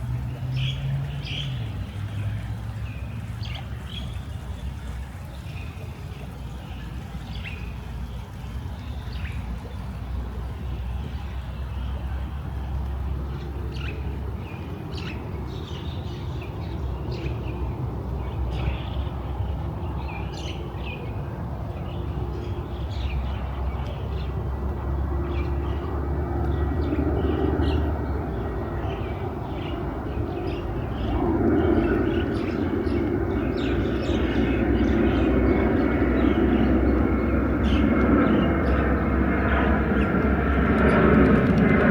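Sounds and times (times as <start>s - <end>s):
distant traffic rumble: 0.0s - 41.9s.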